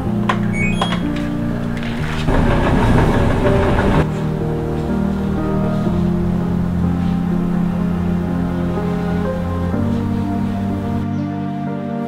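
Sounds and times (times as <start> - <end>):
soft music of sustained chords: 0.0 - 12.0.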